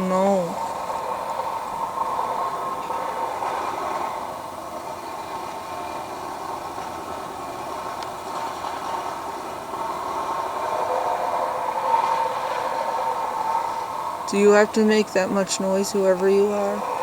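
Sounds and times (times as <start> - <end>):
construction machine droning: 0.0 - 17.0.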